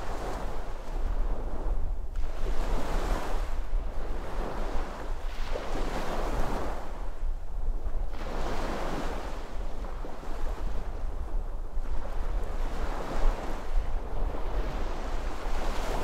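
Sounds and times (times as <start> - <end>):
ocean waves breaking on shore: 0.0 - 7.3, 8.0 - 16.0
wind rumble on microphone: 0.0 - 16.0.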